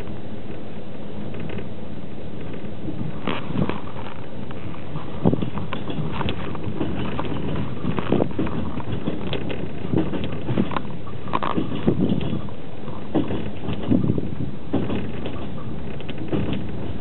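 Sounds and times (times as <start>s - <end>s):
knocks and clacks of train car: 0.0s - 17.0s
train wheels rumbling on rails: 0.0s - 17.0s.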